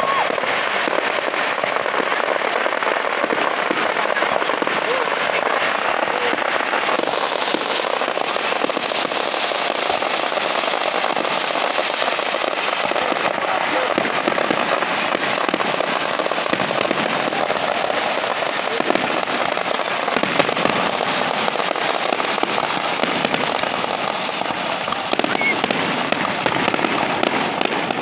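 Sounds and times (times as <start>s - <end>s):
fireworks crackling and popping: 0.0s - 28.0s.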